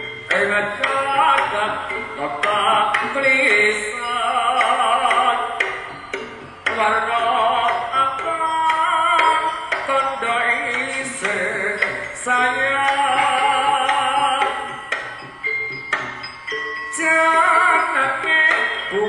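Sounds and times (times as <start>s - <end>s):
gamelan ensemble music: 0.0s - 19.0s
ornamented melody line: 0.0s - 19.0s
sharp percussive strikes: 0.0s - 19.0s.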